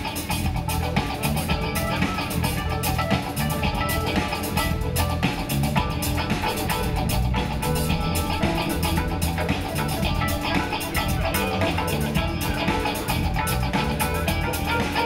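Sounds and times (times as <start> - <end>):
band music: 0.0 - 15.0
drum kit: 0.0 - 15.0
electric guitar: 0.0 - 15.0.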